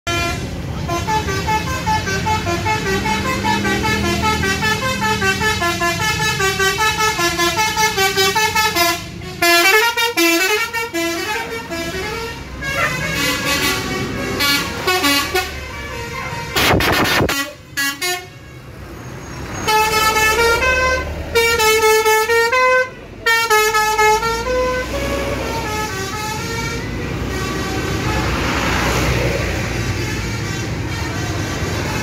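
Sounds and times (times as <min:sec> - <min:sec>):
bus engine running: 0:00.1 - 0:32.0
multi-tone bus horn tune: 0:00.1 - 0:32.0.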